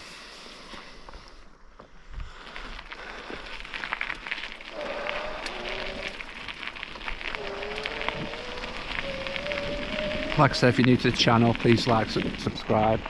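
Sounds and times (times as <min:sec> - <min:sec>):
bicycle tyres crunching on gravel: 0:00.0 - 0:13.0.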